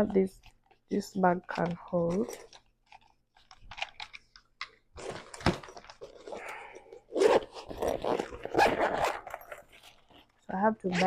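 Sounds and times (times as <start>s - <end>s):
rustling and crinkling: 0.0s - 6.6s, 7.2s - 11.0s.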